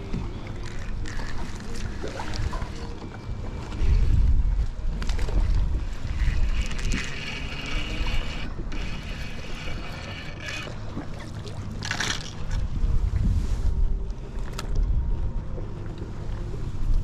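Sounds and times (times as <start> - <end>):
wind buffeting microphone: 0.0 - 11.1, 12.4 - 15.8
low rumble: 0.0 - 17.0.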